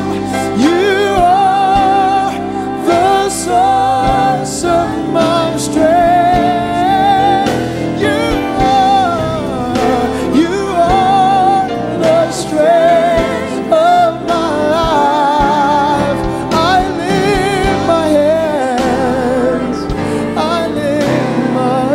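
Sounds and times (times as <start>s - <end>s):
gospel worship singing: 0.0s - 21.9s
instrumental accompaniment: 0.0s - 21.9s.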